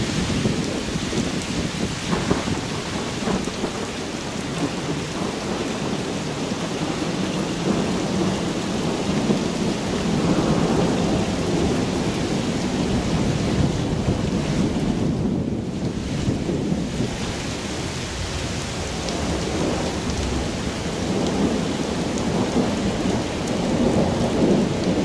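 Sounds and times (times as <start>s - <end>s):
heavy rain: 0.0s - 25.0s
thunder rumbling: 0.0s - 25.0s.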